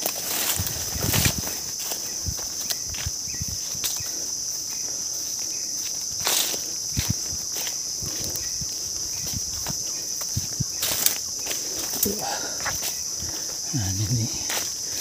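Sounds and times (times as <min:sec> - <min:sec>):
footsteps on forest trail: 0:00.0 - 0:15.0
insects chirping chorus: 0:00.0 - 0:15.0.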